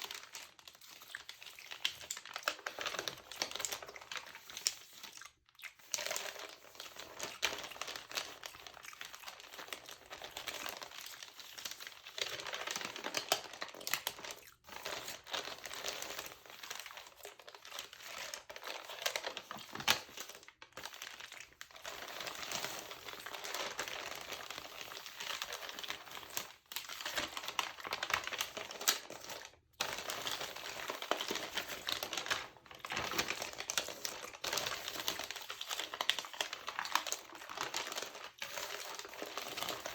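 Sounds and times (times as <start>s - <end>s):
magazine pages crinkling: 0.0s - 5.2s, 5.8s - 39.9s.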